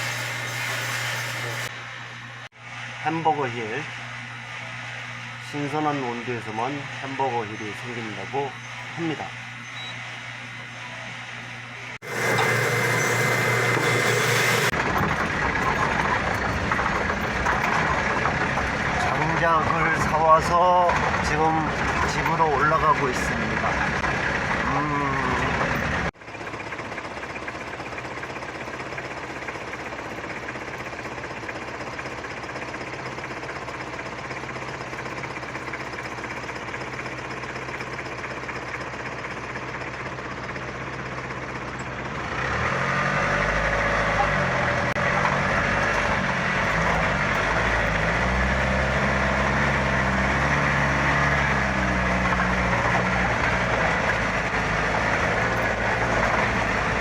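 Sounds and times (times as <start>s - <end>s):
vehicle engine running: 10.2s - 57.0s.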